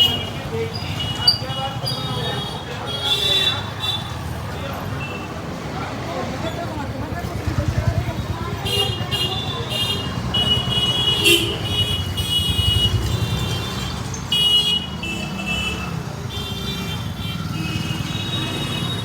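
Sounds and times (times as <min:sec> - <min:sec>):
vehicle horns honking: 0:00.0 - 0:05.3, 0:08.4 - 0:19.0
engine and traffic rumble: 0:00.0 - 0:19.0.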